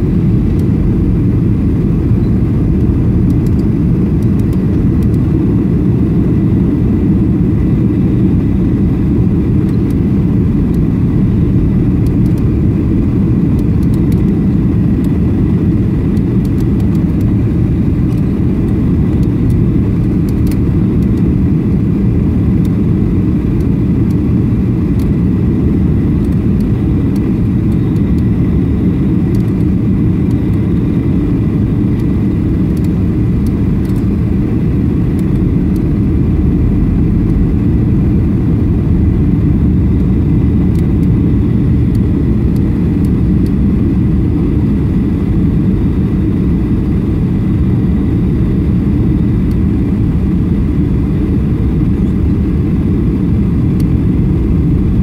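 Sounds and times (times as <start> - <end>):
jet engines and airflow rumble: 0.0 - 55.0.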